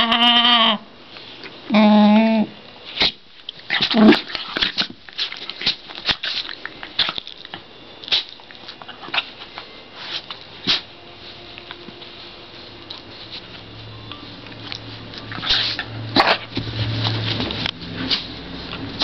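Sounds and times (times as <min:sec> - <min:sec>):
dogs scuffling and huffing: 0:02.9 - 0:19.0.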